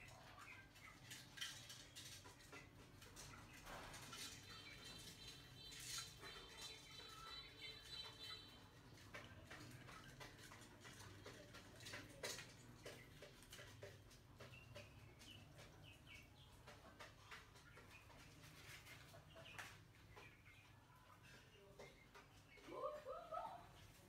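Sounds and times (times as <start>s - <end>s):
mice clicking and scratching: 0.0s - 20.3s.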